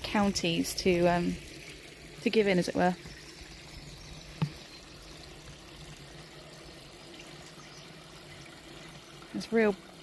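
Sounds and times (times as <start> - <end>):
water trickling into stone trough: 0.0 - 10.0.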